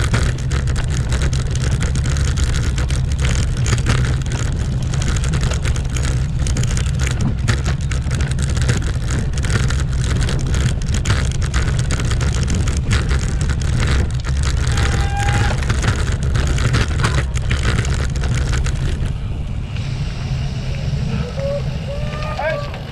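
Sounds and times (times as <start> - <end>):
bike clattering over cobblestones: 0.0 - 19.5.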